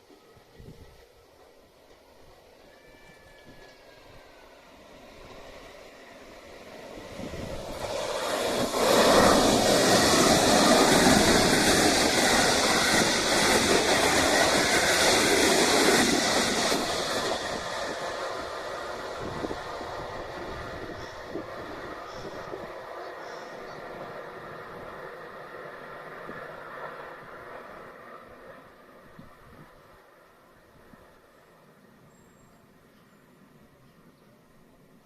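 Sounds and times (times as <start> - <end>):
train passing: 0.0 - 35.0.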